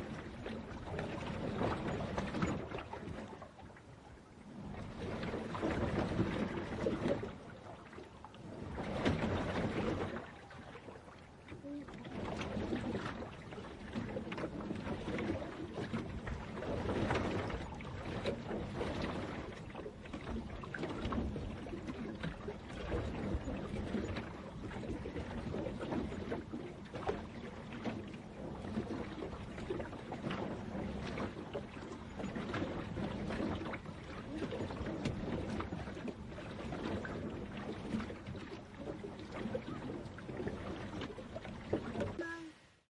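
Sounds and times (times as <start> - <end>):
water sloshing and lapping: 0.0 - 42.9.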